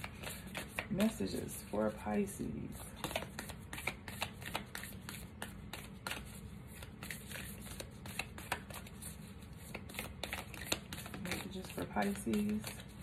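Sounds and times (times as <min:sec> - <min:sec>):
cards being shuffled: 0:00.0 - 0:01.4, 0:02.7 - 0:13.0.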